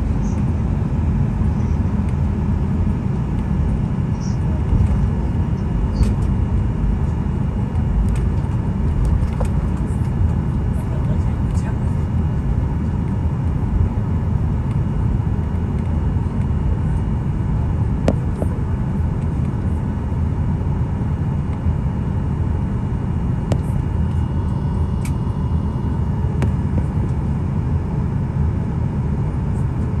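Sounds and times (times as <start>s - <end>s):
aircraft cabin rumble: 0.0s - 30.0s.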